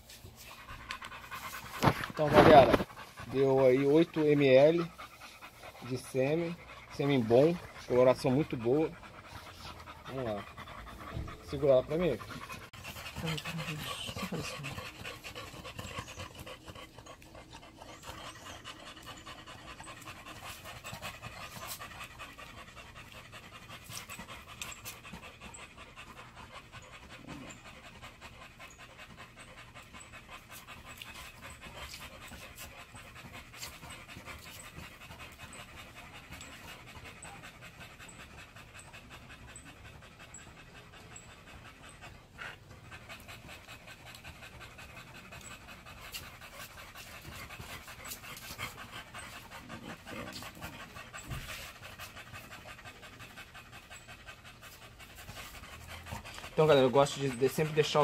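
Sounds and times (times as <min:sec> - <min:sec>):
dog panting: 0:00.0 - 0:58.0.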